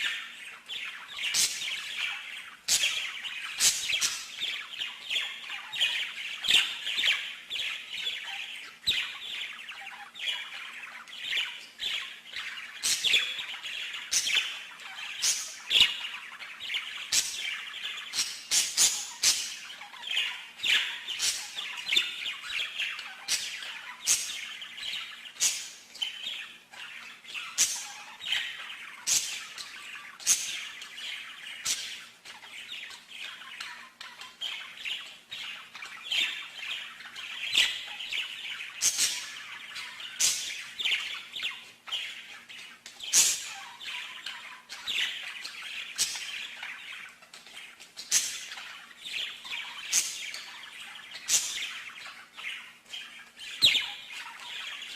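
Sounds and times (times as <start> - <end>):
small songbird singing: 0.0 - 54.9.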